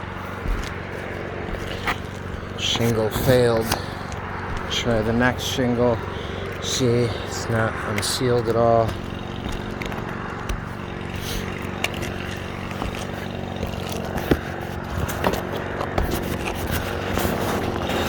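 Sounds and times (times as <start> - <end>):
roof shingle scraping and clicking: 0.0 - 18.0
steady engine drone: 0.0 - 18.0.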